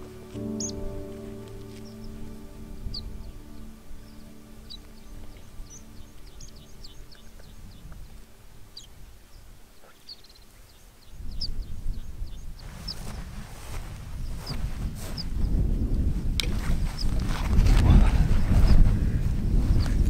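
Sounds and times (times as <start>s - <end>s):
small birds chirping: 0.0s - 20.0s
wind buffeting microphone: 0.0s - 20.0s.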